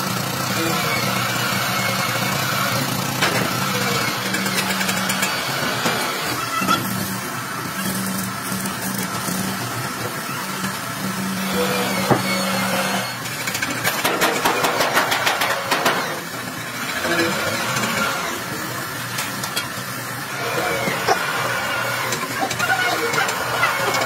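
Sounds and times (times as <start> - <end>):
motor running: 0.0 - 24.0.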